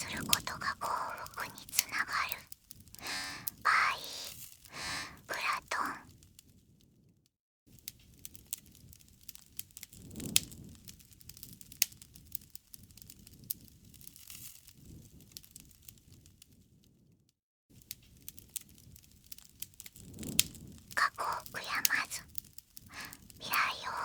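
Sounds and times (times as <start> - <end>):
campfire crackling and popping: 0.0 - 6.2, 7.7 - 16.6, 17.8 - 24.0.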